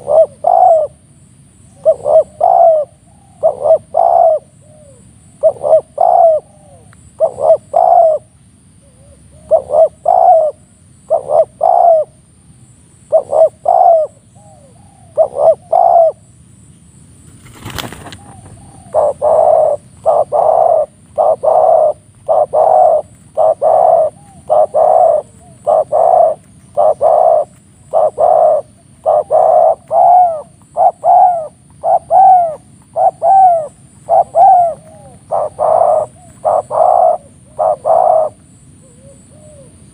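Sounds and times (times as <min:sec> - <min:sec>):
doves cooing: 0:00.0 - 0:01.1, 0:01.7 - 0:12.2, 0:13.1 - 0:16.3, 0:17.4 - 0:39.9.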